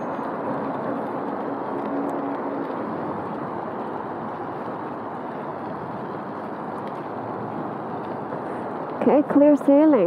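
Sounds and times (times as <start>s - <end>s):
bicycle rolling in tunnel: 0.0s - 10.0s.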